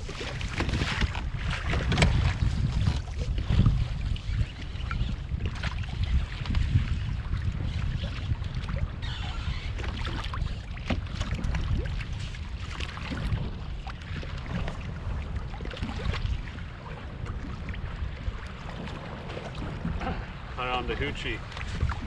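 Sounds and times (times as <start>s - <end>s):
water lapping against kayak: 0.0s - 22.0s
wind buffeting microphone: 0.0s - 22.0s.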